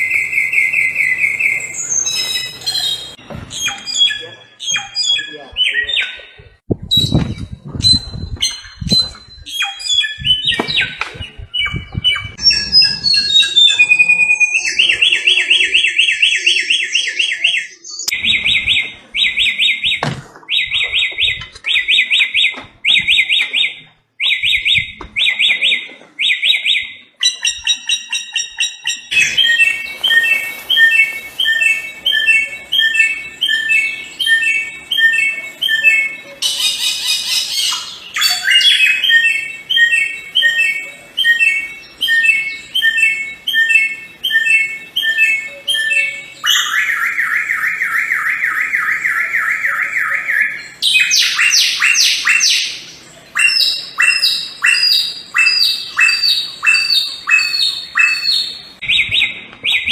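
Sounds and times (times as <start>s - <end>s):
bird singing: 0.0s - 59.9s.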